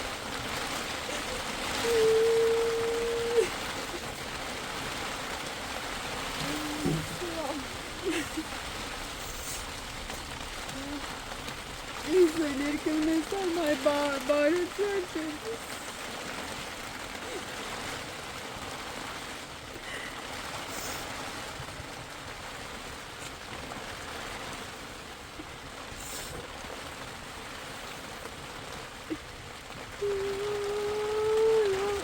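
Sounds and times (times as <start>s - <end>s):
steady rainfall: 0.0s - 32.0s.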